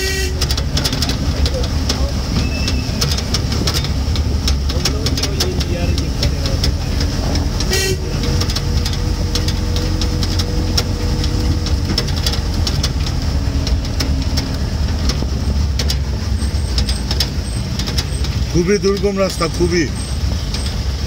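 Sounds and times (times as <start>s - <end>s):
vehicle engine and road rumble: 0.0s - 21.0s
light clicks and rattles: 0.4s - 21.0s.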